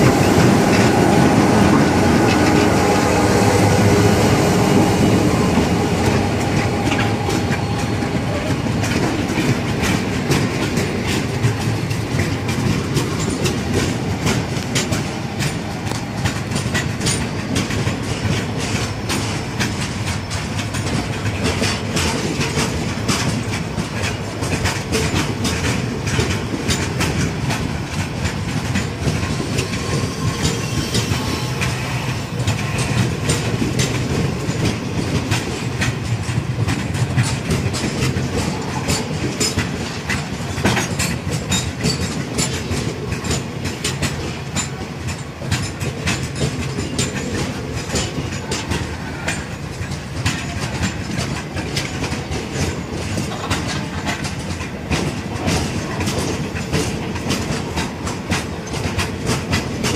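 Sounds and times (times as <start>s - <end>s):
low train rumble: 0.0s - 59.9s
train wheels clattering over rail joints: 0.0s - 59.9s.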